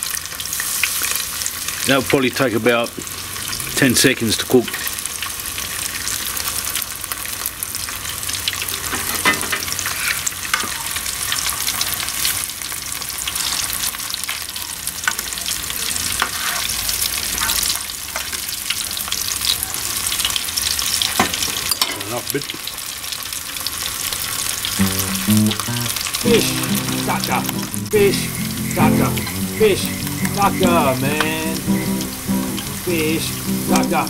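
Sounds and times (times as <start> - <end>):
food sizzling in oil: 0.0 - 2.2, 2.9 - 34.0.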